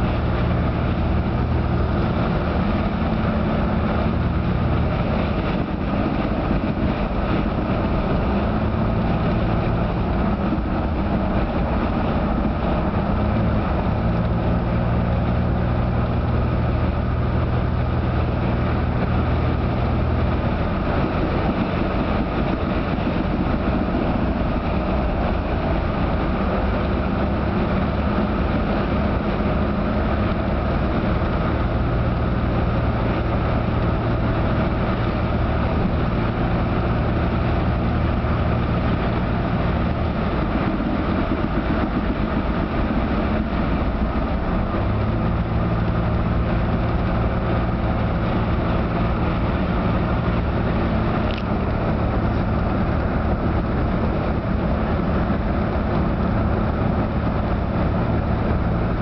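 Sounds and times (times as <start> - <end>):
car engine hum: 0.0 - 59.0
tyre noise on highway: 0.0 - 59.0.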